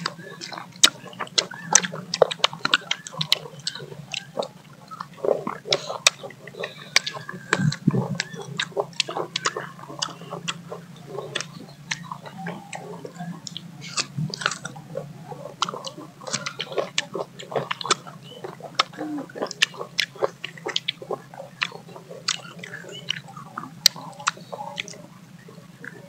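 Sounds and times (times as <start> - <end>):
low steady hum: 0.0 - 26.0
people chewing mango: 0.0 - 26.0.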